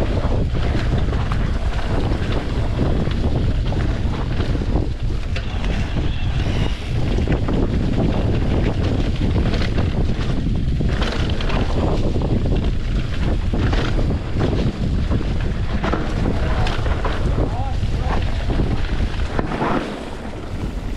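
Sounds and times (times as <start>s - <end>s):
bike knocks and rattles: 0.0s - 20.9s
bike rumbling on dirt trail: 0.0s - 20.9s
wind rushing over microphone: 0.0s - 20.9s.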